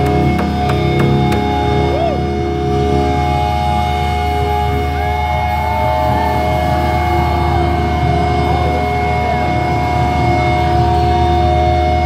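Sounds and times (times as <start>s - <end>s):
metal band playing live: 0.0s - 12.0s.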